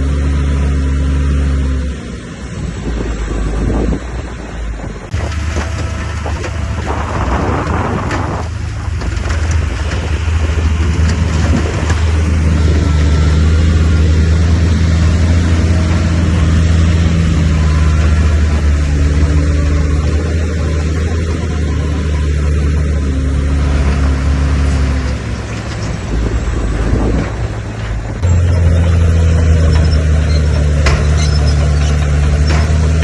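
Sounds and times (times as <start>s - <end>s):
bulldozer diesel engine: 0.0s - 33.0s
earth and rock grinding: 4.8s - 33.0s.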